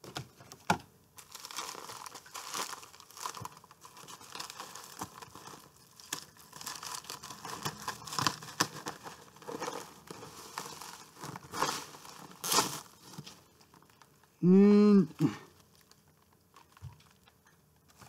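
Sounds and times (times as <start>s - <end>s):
packaging rustling and crinkling: 0.0s - 14.3s, 15.5s - 18.0s.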